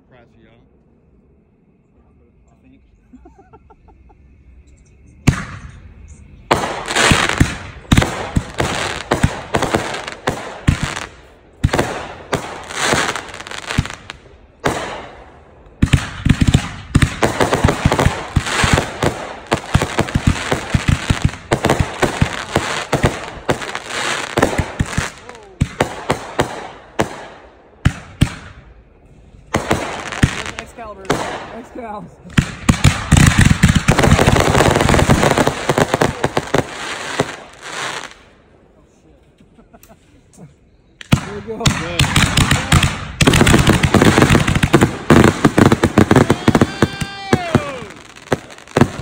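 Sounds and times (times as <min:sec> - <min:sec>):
fireworks crackling: 0:05.2 - 0:38.4, 0:41.0 - 0:49.0
fireworks bursting bangs: 0:05.2 - 0:38.5, 0:41.0 - 0:49.0.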